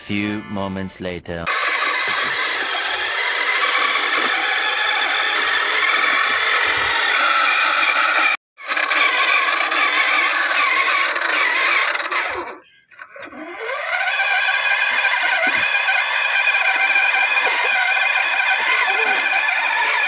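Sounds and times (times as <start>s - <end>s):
tractor engine under load: 1.5s - 20.0s.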